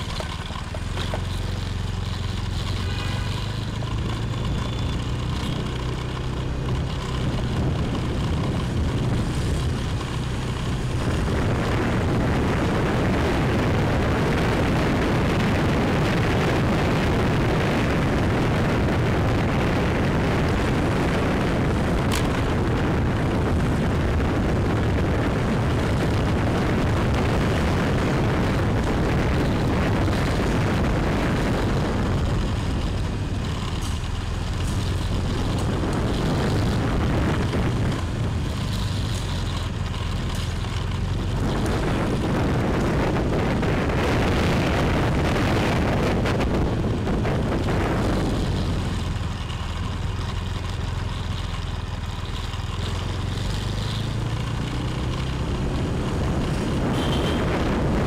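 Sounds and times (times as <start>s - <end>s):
motorbike running: 0.0s - 58.0s
wind buffeting microphone: 3.5s - 51.3s, 52.7s - 58.0s.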